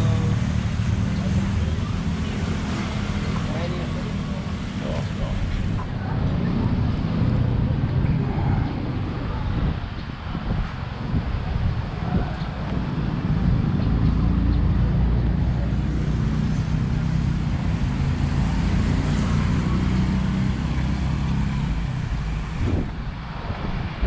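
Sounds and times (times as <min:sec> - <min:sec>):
vehicle engine passing by: 0:00.0 - 0:10.6, 0:11.6 - 0:24.0.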